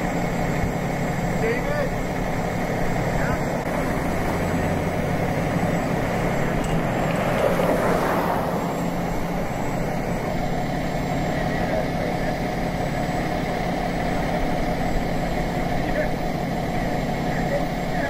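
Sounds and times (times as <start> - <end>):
diesel engine idling: 0.0 - 18.0
outdoor noise: 0.0 - 18.0.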